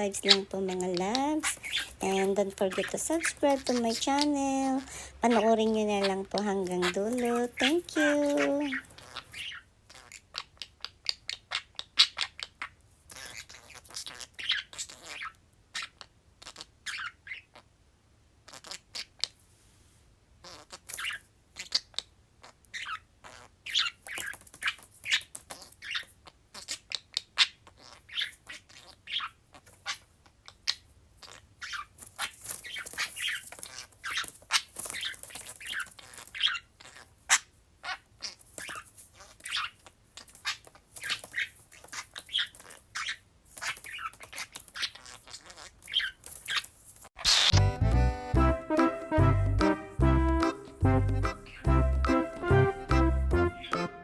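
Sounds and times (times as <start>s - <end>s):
budgerigars chirping and chattering: 0.0s - 17.6s, 20.4s - 22.0s, 22.7s - 30.0s, 30.7s - 48.2s, 50.4s - 53.9s.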